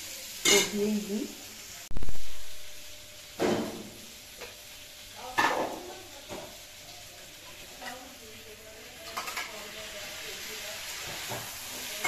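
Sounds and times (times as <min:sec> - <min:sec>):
light sizzling: 0:00.0 - 0:12.0.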